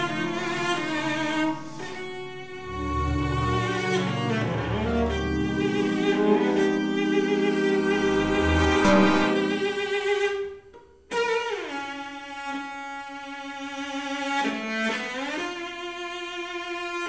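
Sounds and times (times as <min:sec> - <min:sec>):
bowed cello notes: 0:00.0 - 0:17.0.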